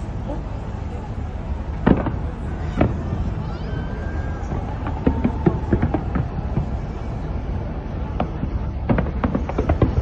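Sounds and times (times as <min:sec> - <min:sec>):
crowd rumble: 0:00.0 - 0:10.0
fireworks bangs and crackles: 0:01.0 - 0:10.0.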